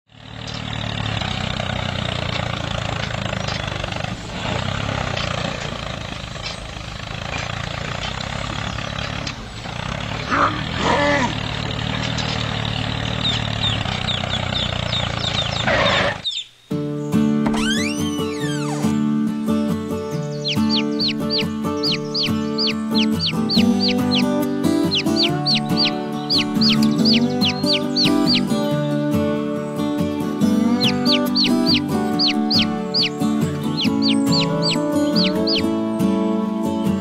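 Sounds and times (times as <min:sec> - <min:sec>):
engine running: 0:00.1 - 0:16.4, 0:17.4 - 0:37.0.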